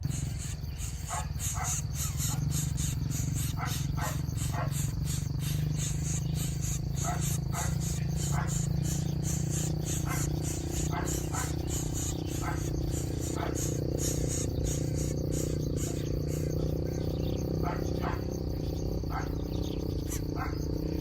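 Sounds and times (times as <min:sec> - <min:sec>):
high fast-pulsing buzz: 0:00.0 - 0:21.0
steady low hum: 0:00.0 - 0:21.0.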